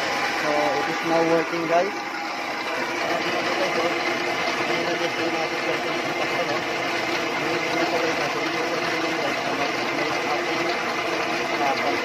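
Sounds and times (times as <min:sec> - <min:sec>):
milling machine motor humming: 0:00.0 - 0:12.0.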